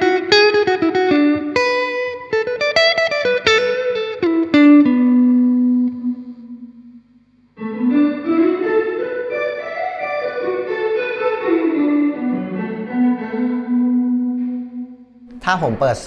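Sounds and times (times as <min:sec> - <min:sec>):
electric guitar with reverb: 0:00.0 - 0:16.0.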